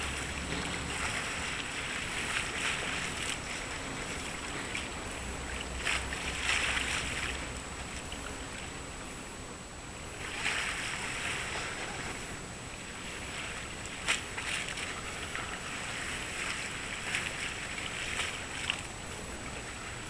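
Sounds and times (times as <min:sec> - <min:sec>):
faint low hum: 0:00.0 - 0:20.0
harbour background noise: 0:00.0 - 0:20.0.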